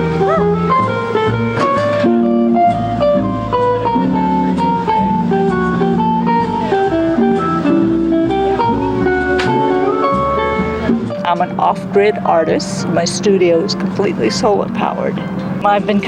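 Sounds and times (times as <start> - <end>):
bass notes: 0.0 - 16.0
plucked guitar melody: 0.0 - 16.0.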